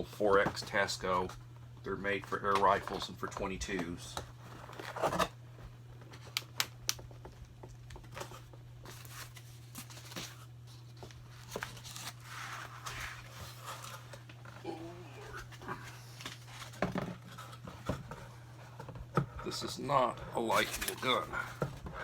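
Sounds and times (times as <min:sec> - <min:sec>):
steady low hum: 0:00.0 - 0:22.0
cardboard and plastic rustling: 0:02.4 - 0:22.0.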